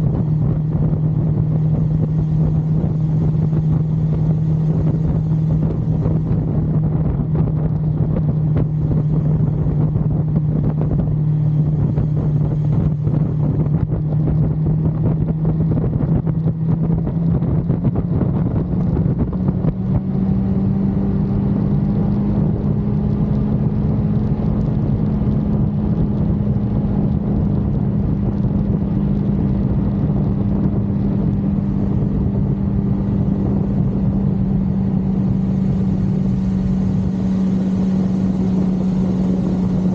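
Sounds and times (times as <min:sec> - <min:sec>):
motorcycle engine running steadily: 0:00.0 - 0:39.9
wind rushing over microphone: 0:00.0 - 0:39.9.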